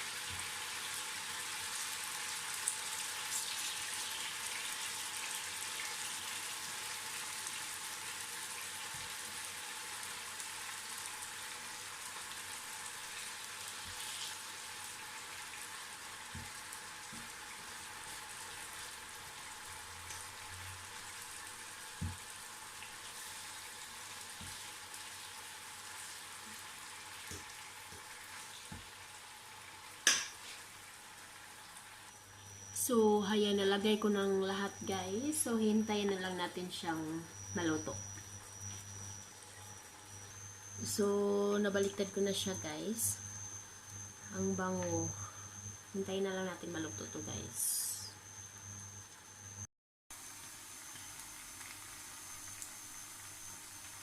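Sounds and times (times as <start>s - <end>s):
meat sizzling in oil: 0.0s - 54.0s.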